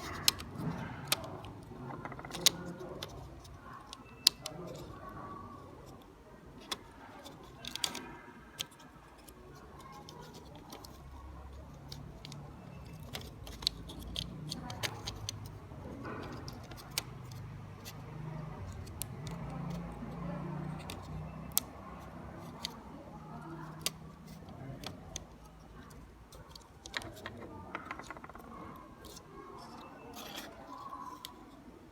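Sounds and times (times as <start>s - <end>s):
small plastic parts clicking: 0.0s - 31.9s.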